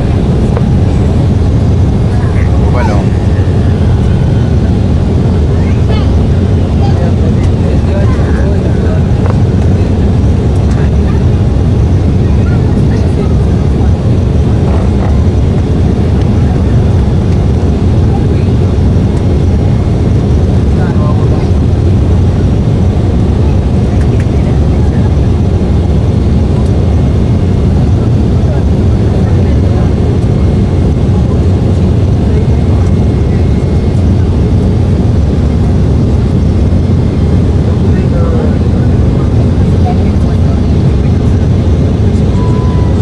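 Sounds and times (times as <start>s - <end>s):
airliner engines rumbling: 0.0s - 43.0s.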